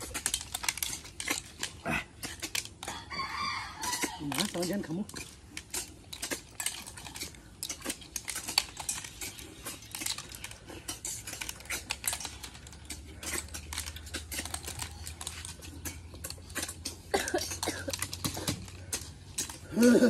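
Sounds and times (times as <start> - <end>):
snail shells clicking on steel plates: 0.0 - 20.0.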